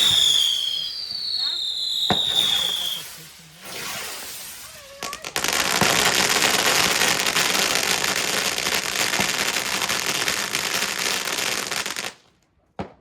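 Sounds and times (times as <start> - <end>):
fireworks crackling: 0.0 - 12.4.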